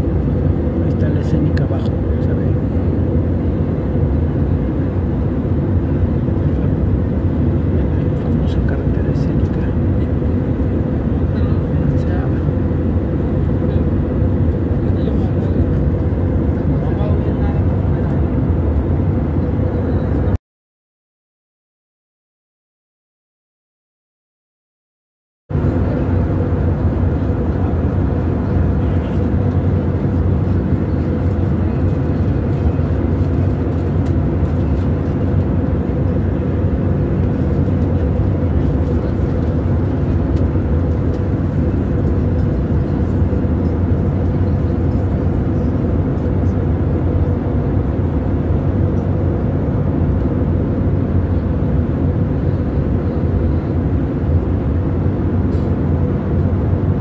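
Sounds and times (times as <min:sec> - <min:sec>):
jet airliner cabin drone: 0:00.0 - 0:20.4, 0:25.5 - 0:57.0.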